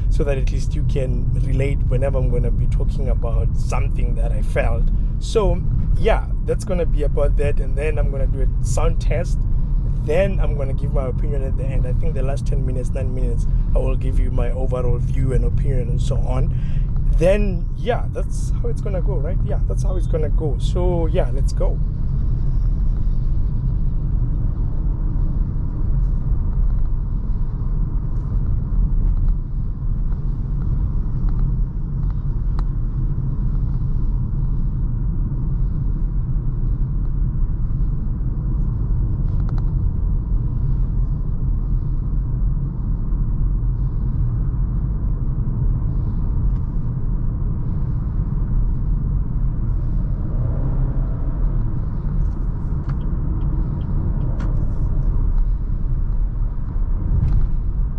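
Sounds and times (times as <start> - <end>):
car cabin road and engine rumble: 0.0 - 57.9.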